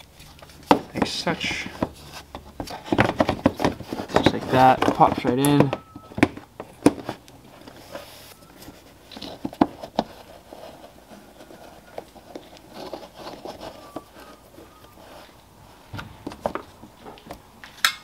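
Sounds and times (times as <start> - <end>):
hands rubbing plastic: 0.0 - 17.5.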